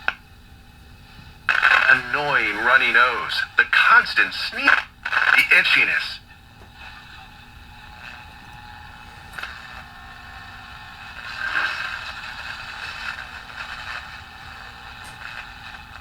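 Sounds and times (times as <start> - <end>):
hissy radio speaker sound: 0.0 - 16.0.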